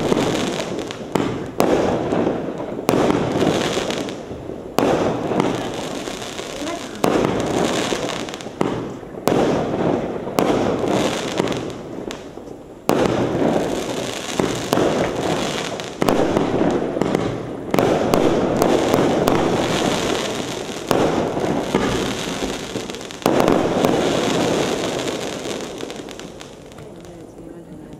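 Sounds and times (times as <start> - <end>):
firework bangs: 0.0 - 27.9
firework crackle: 0.0 - 27.9.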